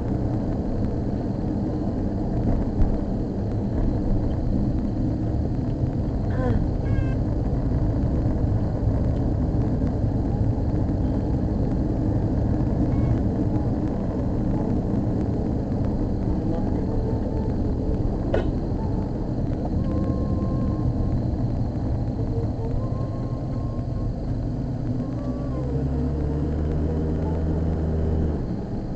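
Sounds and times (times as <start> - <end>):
car engine and road rumble: 0.0 - 28.9.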